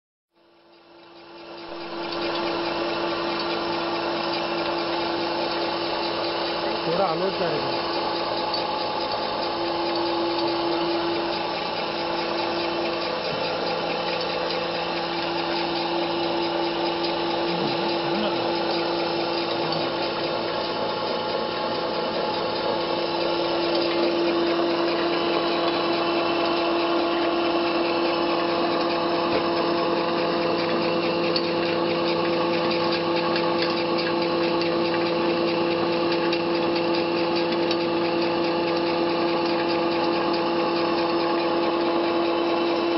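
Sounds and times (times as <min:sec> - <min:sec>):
pellet mill humming and whining: 0:00.4 - 0:42.9.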